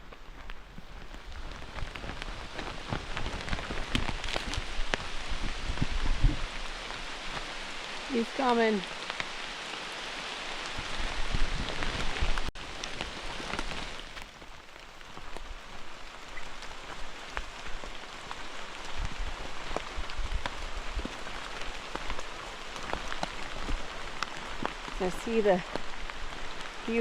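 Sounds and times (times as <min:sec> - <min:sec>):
rain drops tapping: 0:00.0 - 0:27.0.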